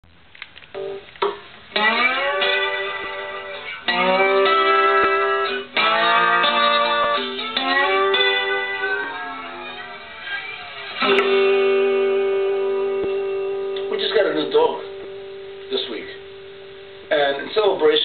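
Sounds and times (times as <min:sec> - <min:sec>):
acoustic guitar chords ringing: 0:00.8 - 0:18.0.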